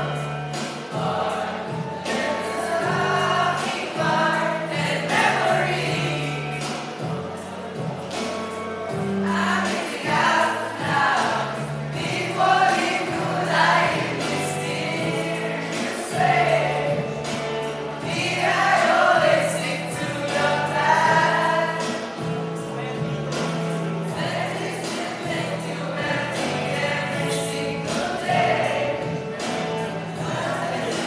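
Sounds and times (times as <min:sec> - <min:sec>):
backing track with bass notes: 0:00.0 - 0:31.0
group singing a jingle: 0:00.0 - 0:31.0.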